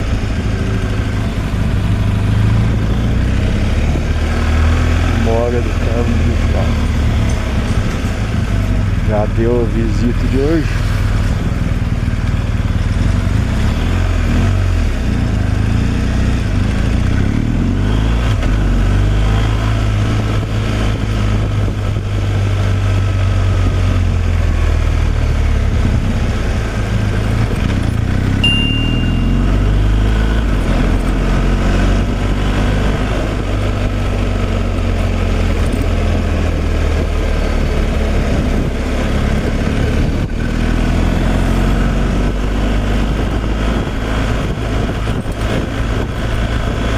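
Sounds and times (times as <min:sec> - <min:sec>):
diesel truck engine droning: 0:00.0 - 0:46.9
road noise: 0:00.0 - 0:46.9.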